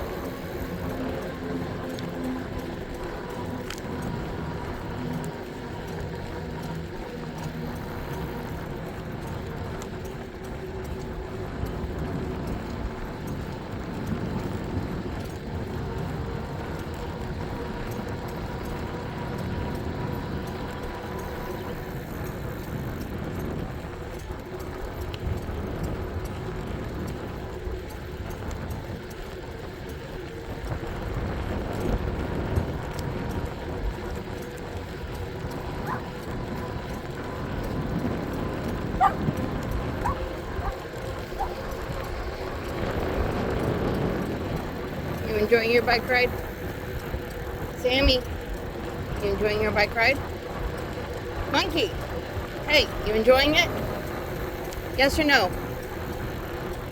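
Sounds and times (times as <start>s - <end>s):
wind and tyre rumble: 0.0s - 56.9s.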